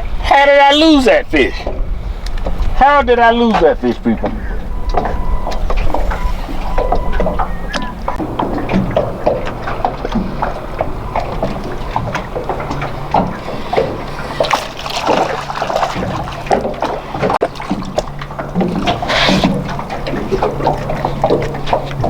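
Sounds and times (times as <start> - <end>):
water splashing against boat: 0.0 - 22.0
knocks and clicks of gear: 3.4 - 22.0.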